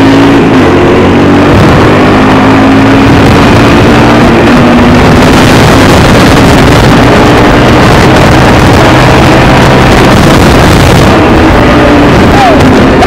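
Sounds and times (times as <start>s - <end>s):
atv engine running: 0.0s - 13.0s
wind noise on microphone: 0.0s - 13.0s.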